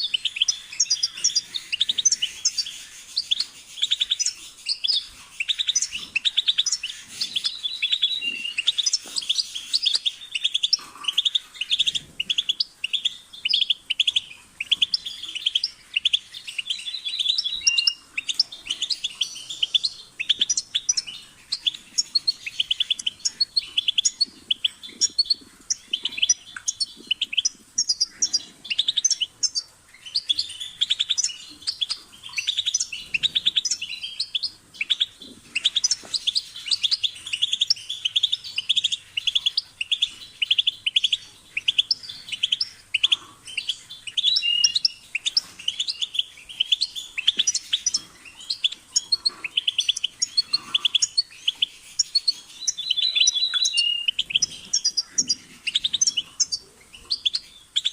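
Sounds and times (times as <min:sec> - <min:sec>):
bird twittering: 0:00.0 - 0:57.9.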